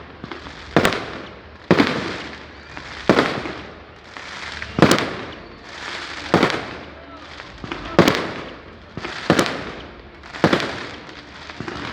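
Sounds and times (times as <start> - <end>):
firecrackers banging with echo: 0.0 - 11.9.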